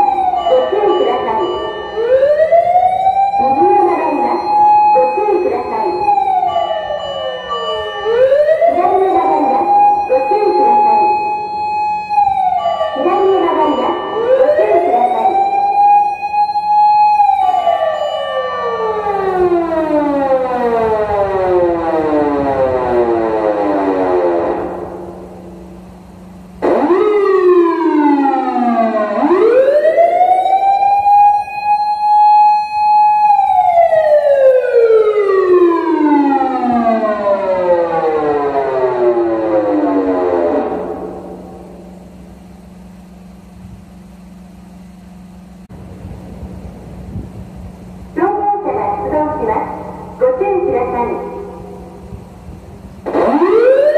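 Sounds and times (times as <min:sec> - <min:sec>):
electronic siren wailing: 0:00.0 - 0:43.4, 0:48.2 - 0:53.9.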